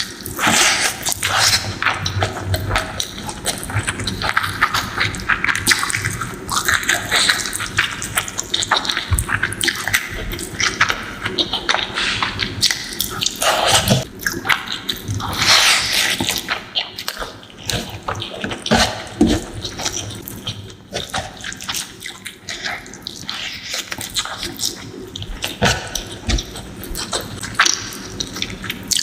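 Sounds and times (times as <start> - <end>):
wet chewing and lip smacking: 0.0 - 29.0.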